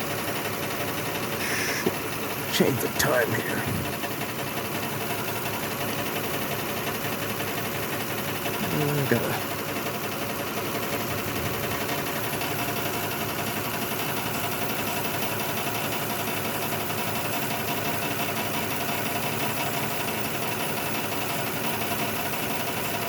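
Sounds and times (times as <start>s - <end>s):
car engine idling with misfire: 0.0s - 23.0s.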